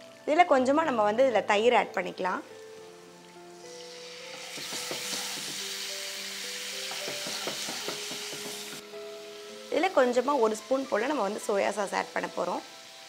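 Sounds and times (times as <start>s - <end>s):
yogurt sizzling in hot oil: 2.1s - 13.0s.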